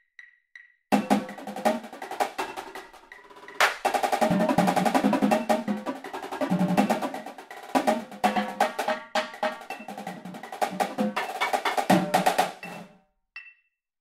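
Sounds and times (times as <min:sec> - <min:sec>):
snare drums playing: 0:00.9 - 0:12.9
tenor drums playing: 0:00.9 - 0:12.9.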